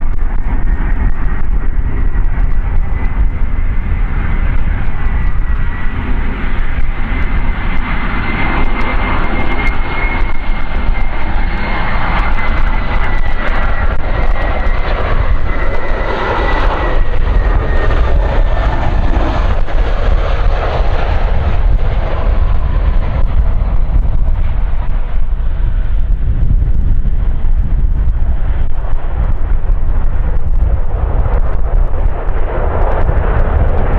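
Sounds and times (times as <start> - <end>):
deep continuous rumble: 0.0 - 33.9
jet engine whine: 0.0 - 33.9.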